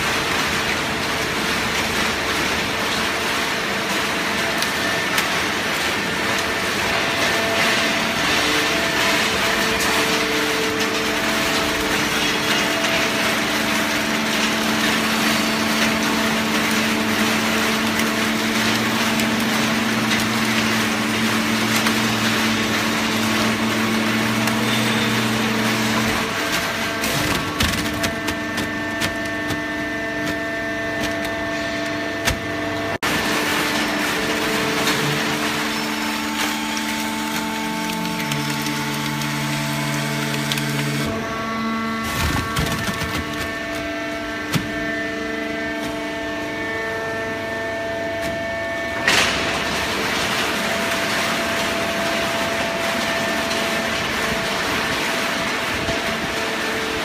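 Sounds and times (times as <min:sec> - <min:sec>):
hydraulic baler hum and whine: 0:00.0 - 0:57.0.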